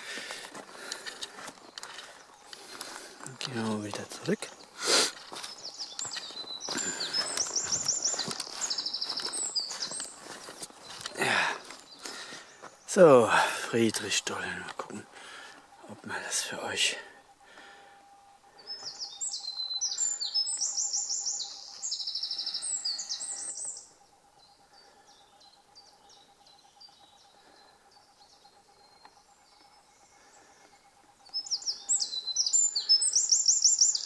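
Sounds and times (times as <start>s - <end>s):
songbird singing trills: 1.6s - 34.0s.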